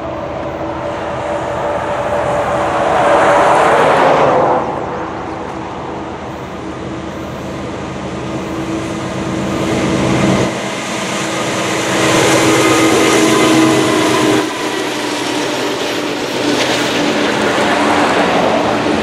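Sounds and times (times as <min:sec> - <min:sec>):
diesel locomotive engine hum: 0:00.0 - 0:19.0.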